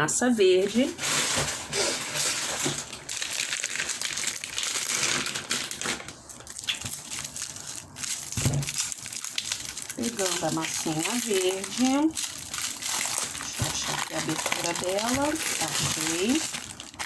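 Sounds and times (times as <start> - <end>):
plastic packaging crinkling: 0.6 - 17.0.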